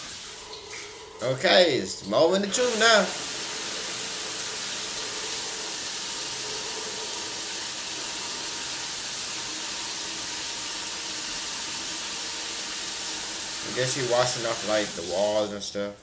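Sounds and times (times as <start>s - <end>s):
shower water spray hissing: 0.0s - 1.2s, 2.4s - 15.5s.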